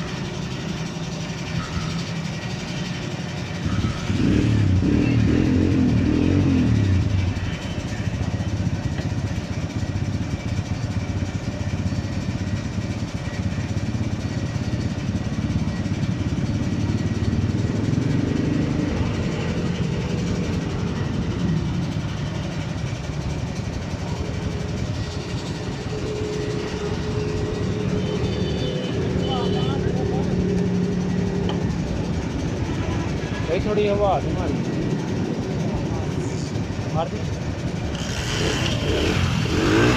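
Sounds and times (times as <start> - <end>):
motorcycle engine rumble: 0.0 - 39.9
road traffic: 0.0 - 39.9.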